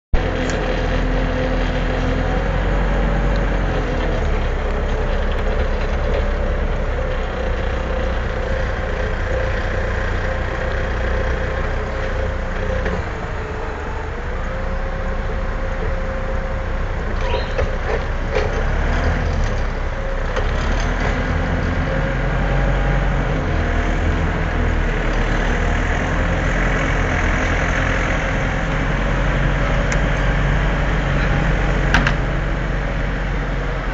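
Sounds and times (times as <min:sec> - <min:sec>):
lift truck motor rumbling: 0:00.1 - 0:33.9.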